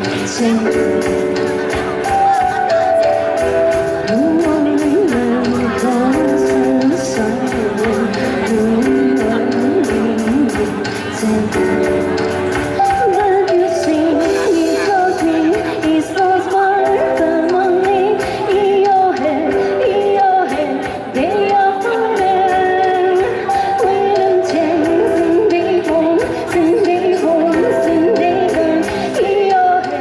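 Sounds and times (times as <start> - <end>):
instrumental backing music: 0.0 - 30.0
person singing: 0.0 - 30.0.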